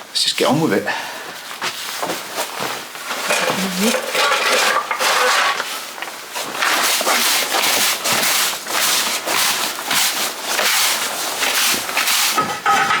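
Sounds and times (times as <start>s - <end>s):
hand scraping soil and rubble: 2.4s - 13.0s.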